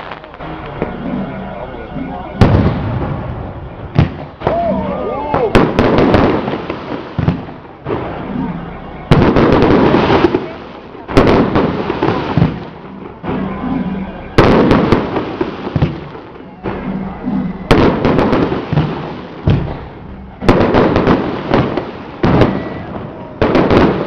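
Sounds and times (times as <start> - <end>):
firecracker bangs with crackling: 2.4 - 24.0.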